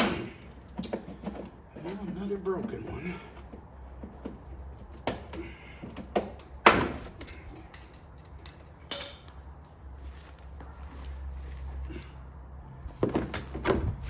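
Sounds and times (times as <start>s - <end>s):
tools and plastic parts clattering: 0.0s - 14.0s.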